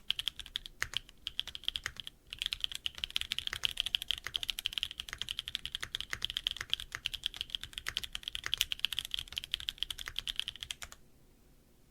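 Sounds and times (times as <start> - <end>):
mechanical keyboard typing: 0.1 - 11.0.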